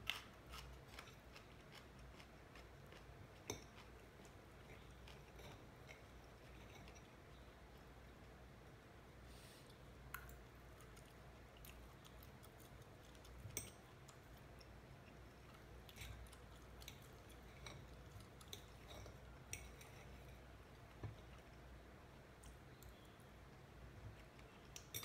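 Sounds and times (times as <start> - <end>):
quiet chewing: 0.0 - 8.9, 9.6 - 25.0
low room hum: 0.0 - 25.0.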